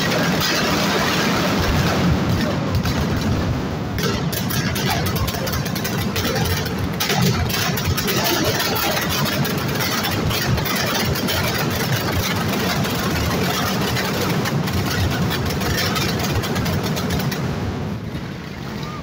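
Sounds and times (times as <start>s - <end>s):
firecrackers rapid-fire barrage: 0.0s - 19.0s.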